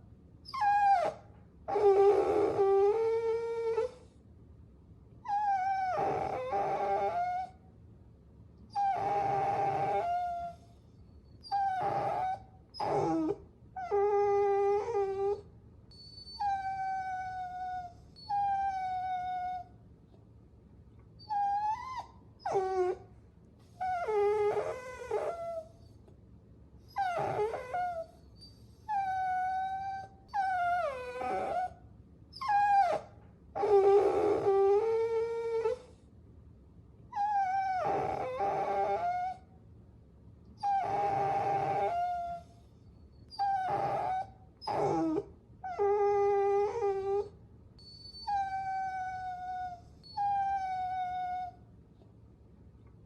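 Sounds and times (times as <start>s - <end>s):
puppy whining: 0.4s - 4.2s, 5.2s - 7.6s, 8.7s - 19.8s, 21.1s - 26.2s, 26.8s - 36.0s, 37.1s - 39.6s, 40.6s - 52.1s.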